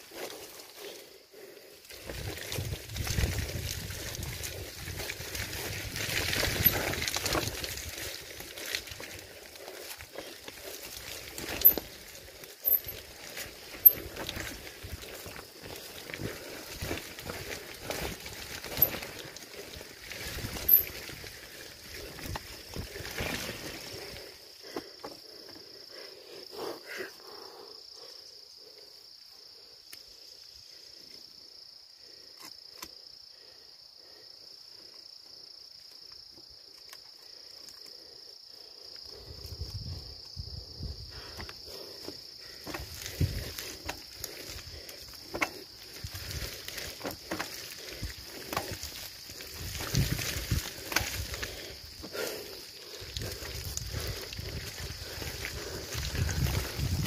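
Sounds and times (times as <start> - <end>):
trail bike rumble with knocks: 0.0 - 28.2, 35.9 - 57.0
high insect drone: 0.0 - 57.0.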